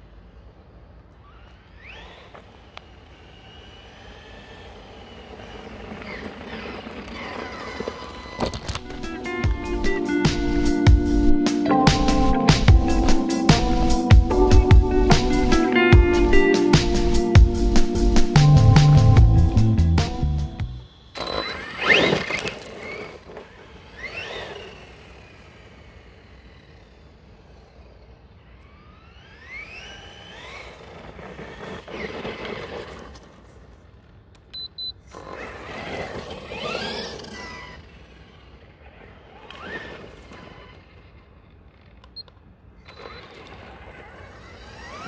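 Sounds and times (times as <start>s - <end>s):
electric motor whining: 1.2s - 45.0s.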